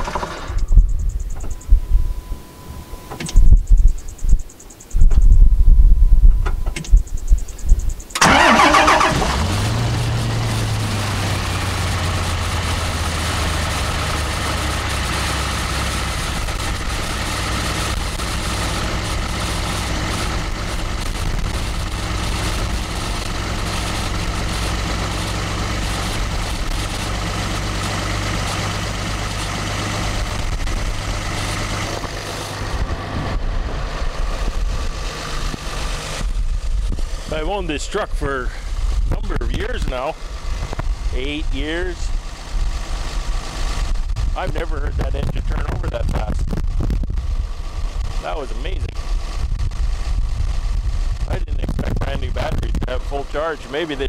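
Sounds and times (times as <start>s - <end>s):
diesel engine starting and idling: 0.0s - 3.8s, 8.0s - 54.0s.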